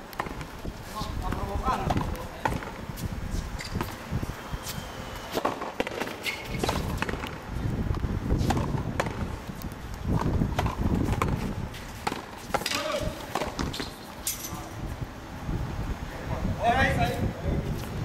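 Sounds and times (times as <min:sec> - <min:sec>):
ball striking racket and walls: 0:00.0 - 0:14.7.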